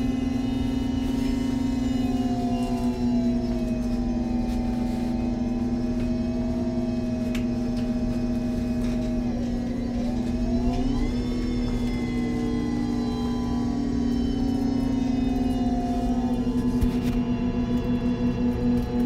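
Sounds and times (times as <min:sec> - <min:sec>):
bus engine and gearbox whine: 0:00.0 - 0:19.0.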